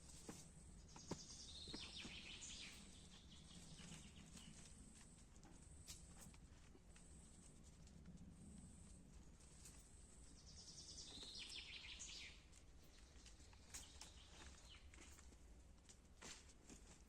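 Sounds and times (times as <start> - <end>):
quiet forest background: 0.0 - 17.0.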